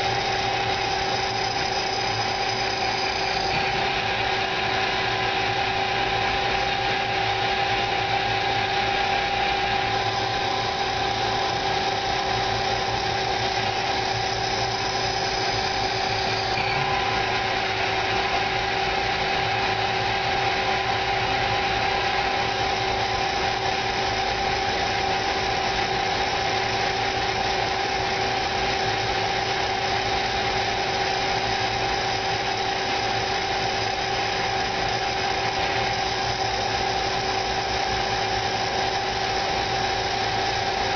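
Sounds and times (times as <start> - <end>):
lathe machine hum with tones: 0.0 - 40.9.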